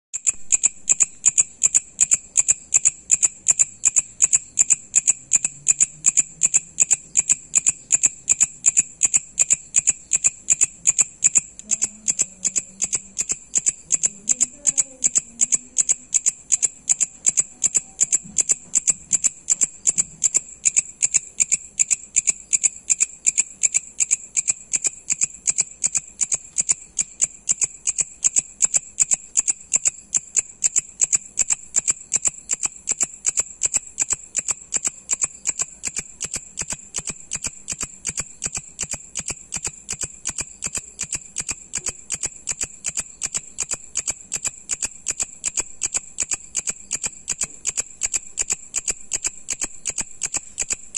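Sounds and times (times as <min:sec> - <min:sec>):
katydid clicking chirps: 0:00.1 - 0:50.9.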